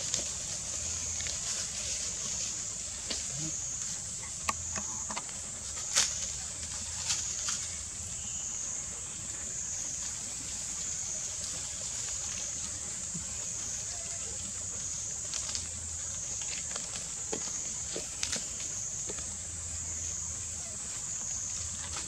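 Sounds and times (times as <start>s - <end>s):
dry leaves crackling: 0.0s - 22.0s
high-pitched outdoor hiss: 0.0s - 22.0s.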